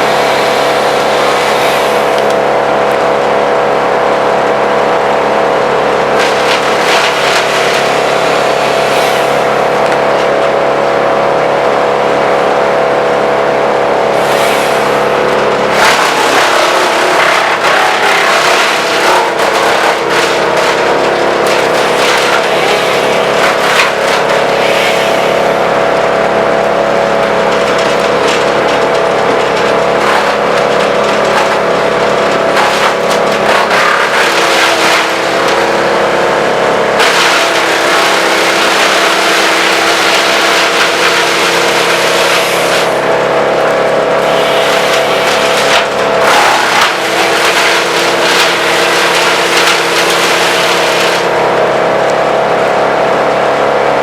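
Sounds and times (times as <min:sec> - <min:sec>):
branches grinding in chipper: 0:00.0 - 0:54.0
wood chipper engine droning: 0:00.0 - 0:54.0.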